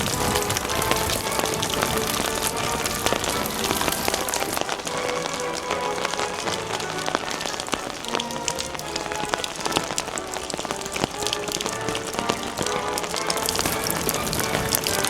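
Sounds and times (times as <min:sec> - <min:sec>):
music with held melodic notes: 0:00.0 - 0:15.0
rain drops tapping: 0:00.0 - 0:15.0.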